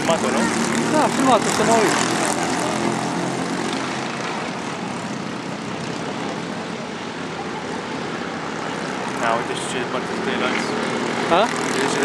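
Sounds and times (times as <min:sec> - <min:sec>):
distant racing kart engines: 0:00.0 - 0:12.0.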